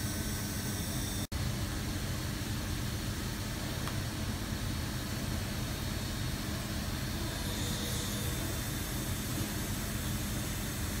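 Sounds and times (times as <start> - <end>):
faint machine whine: 0.0 - 11.0
milling machine humming: 0.0 - 11.0.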